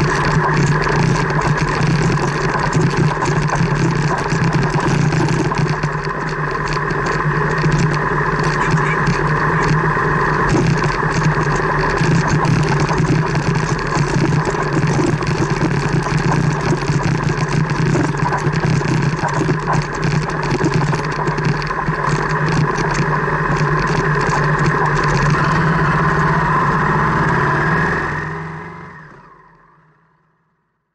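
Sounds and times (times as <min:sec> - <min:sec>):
tyres crackling over gravel: 0:00.0 - 0:26.4
car engine hum: 0:00.0 - 0:29.4.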